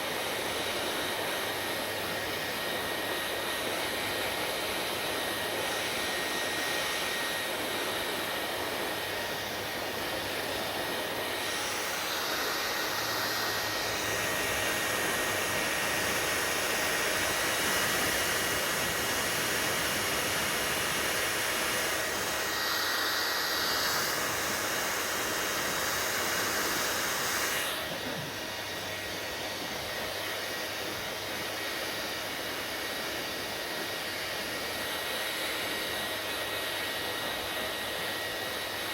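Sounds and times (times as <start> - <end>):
hair dryer whooshing: 0.0 - 38.9.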